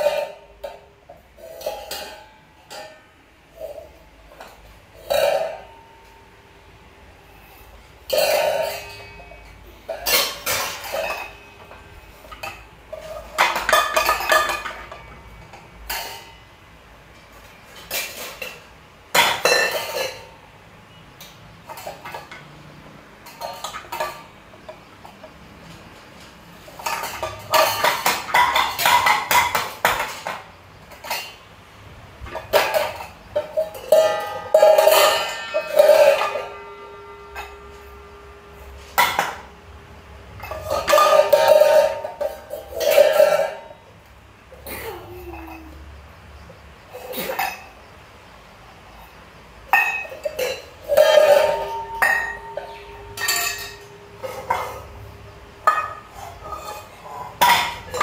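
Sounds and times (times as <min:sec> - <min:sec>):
metal pots and bowls clanking: 0:00.0 - 0:58.0.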